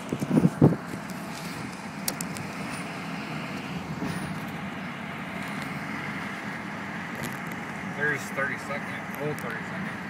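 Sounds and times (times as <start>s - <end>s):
car engine and tyres inside cabin: 0.0s - 10.0s.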